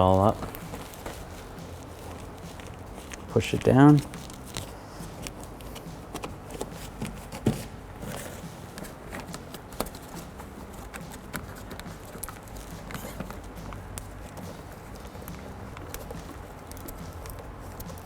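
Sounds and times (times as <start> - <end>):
plastic sheet crinkling: 0.0 - 18.0.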